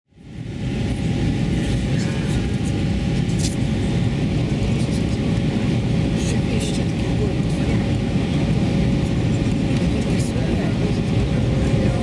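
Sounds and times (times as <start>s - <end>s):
airliner cabin engine rumble: 0.1s - 12.0s.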